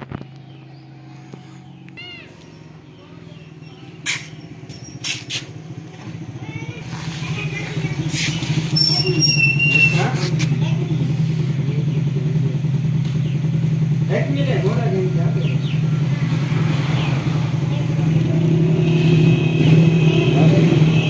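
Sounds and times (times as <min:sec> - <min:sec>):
motor engine running: 0:00.0 - 0:21.0.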